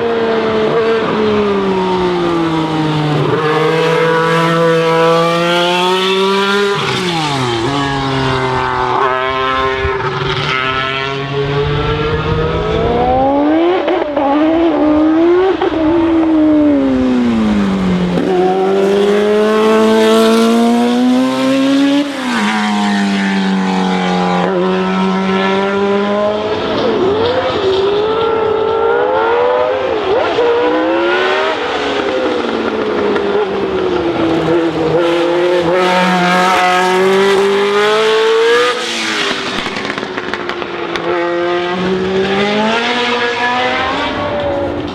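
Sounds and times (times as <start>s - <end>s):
racing car engines passing: 0.0s - 44.9s.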